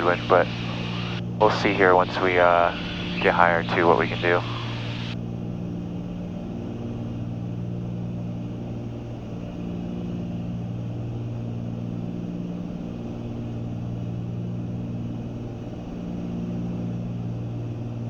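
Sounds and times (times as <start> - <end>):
aircraft engines and propellers: 0.0 - 18.0.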